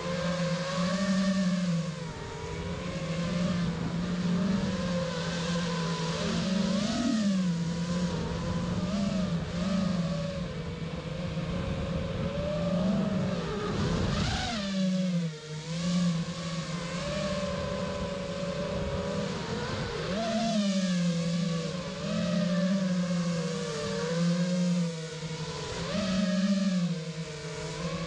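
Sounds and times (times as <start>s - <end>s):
quadcopter motor whine: 0.0s - 28.0s.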